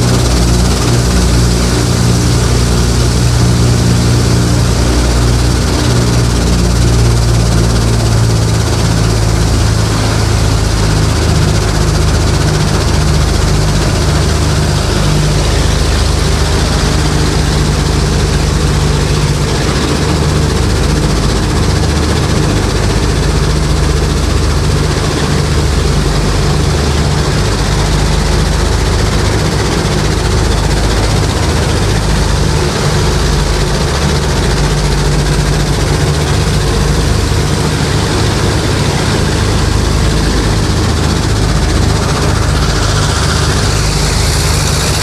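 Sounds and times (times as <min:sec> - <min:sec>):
aircraft engines droning: 0:00.0 - 0:45.0.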